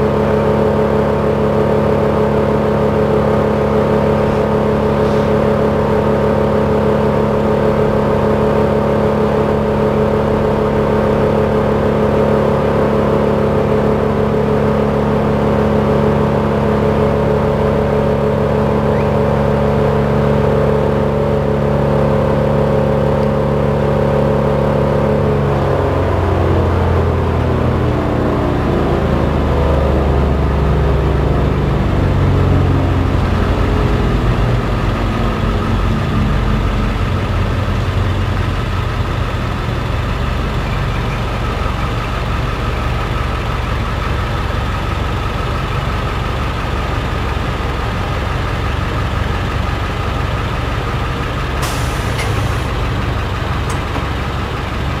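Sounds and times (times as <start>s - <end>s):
heavy truck engine rumbling: 0.0s - 55.0s.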